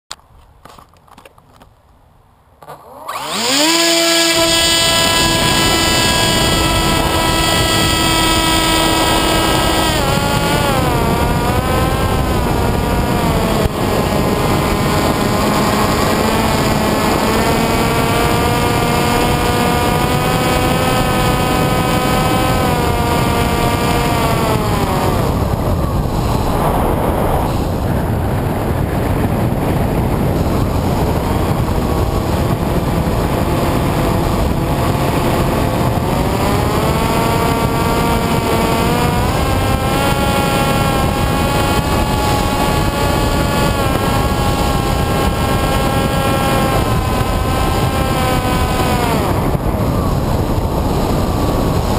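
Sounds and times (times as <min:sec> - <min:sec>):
electric motor and propeller whine: 0:02.6 - 0:51.9
wind rush: 0:03.1 - 0:51.9.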